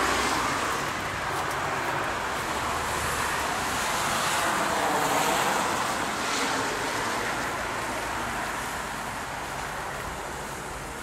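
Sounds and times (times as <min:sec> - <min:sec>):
tyre hiss on wet road: 0:00.0 - 0:11.0.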